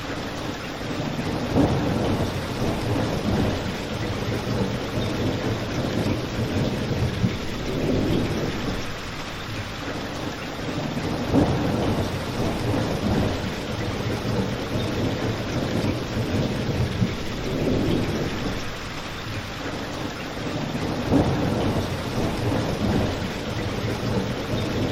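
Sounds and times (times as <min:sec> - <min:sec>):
steady rain: 0:00.0 - 0:24.9.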